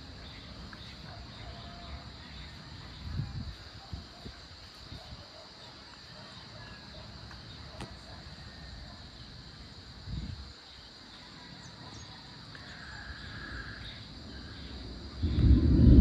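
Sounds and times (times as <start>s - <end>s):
faint low outdoor rumble: 0.0s - 16.0s
high-pitched insect chorus: 0.0s - 16.0s.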